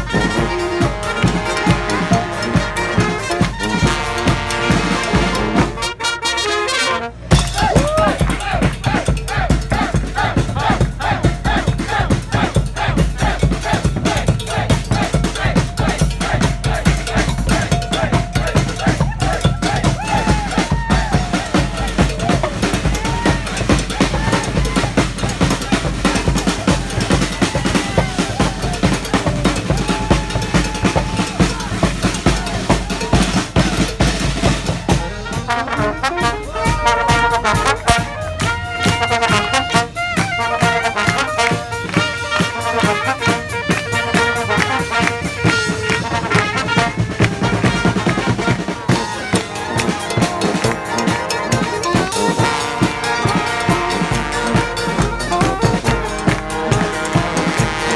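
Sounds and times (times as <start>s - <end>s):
marching band playing: 0.0s - 57.9s.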